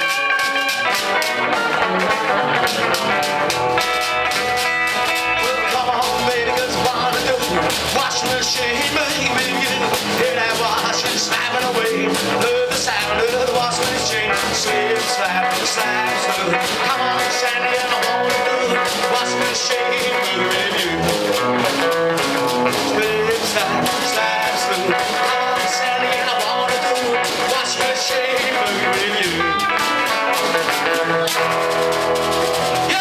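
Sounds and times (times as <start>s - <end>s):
rock band playing instrumental: 0.0s - 33.0s.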